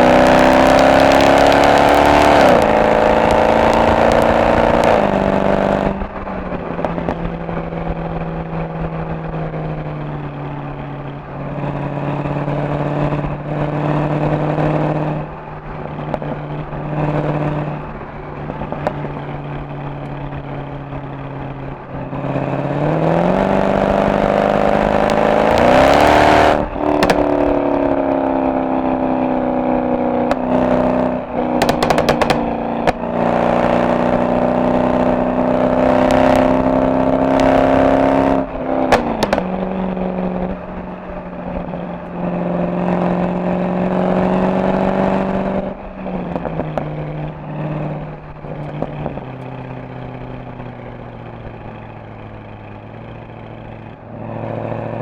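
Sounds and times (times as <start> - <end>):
exhaust cracks: 0.0 - 54.7
car engine accelerating: 0.0 - 55.0.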